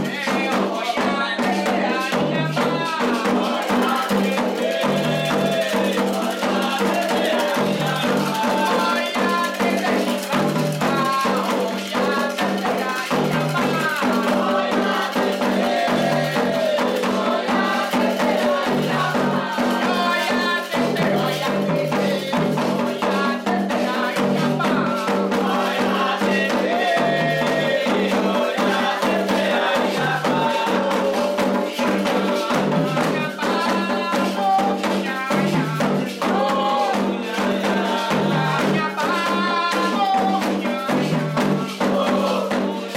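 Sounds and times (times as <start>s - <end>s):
drums: 0.0s - 42.9s
voices singing: 0.0s - 42.9s.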